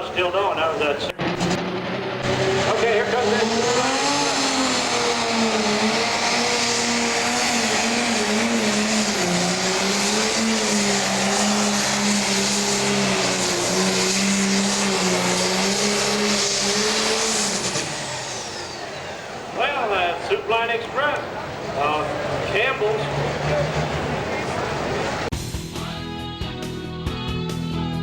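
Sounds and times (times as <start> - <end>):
diesel tractor engine under load: 0.0 - 25.3.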